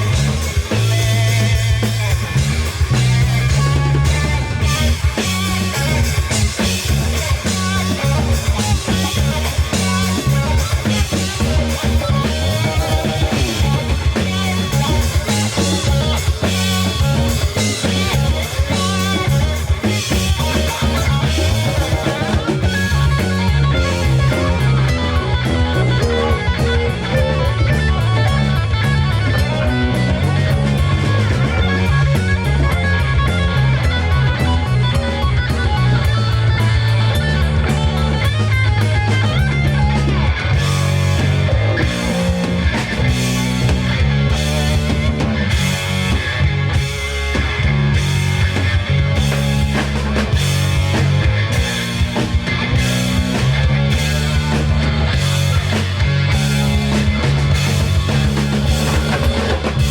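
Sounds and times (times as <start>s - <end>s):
bass line: 0.0s - 59.9s
drum kit: 0.0s - 59.9s
electric guitar: 0.0s - 59.9s.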